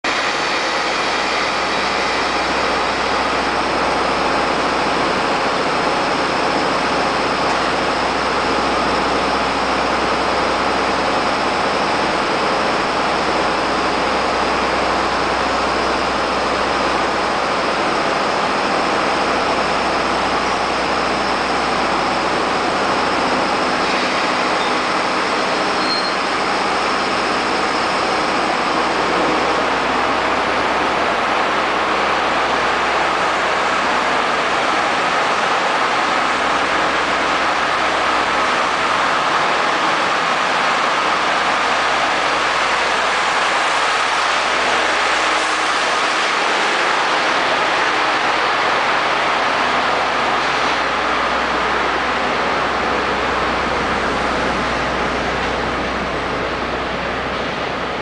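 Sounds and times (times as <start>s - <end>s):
electric locomotive whir and rumble: 0.1s - 58.0s.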